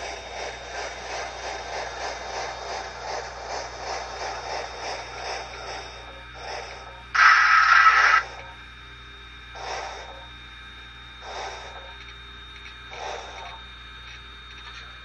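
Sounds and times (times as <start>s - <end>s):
model steam locomotive chuffs: 0.0s - 8.8s, 9.4s - 15.0s.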